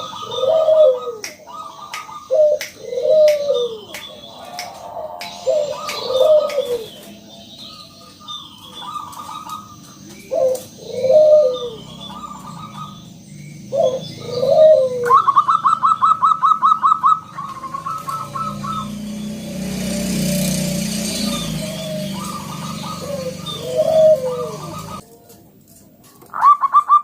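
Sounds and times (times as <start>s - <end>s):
doves cooing: 0.0s - 25.1s, 26.2s - 27.0s
birds chirping: 0.0s - 27.0s.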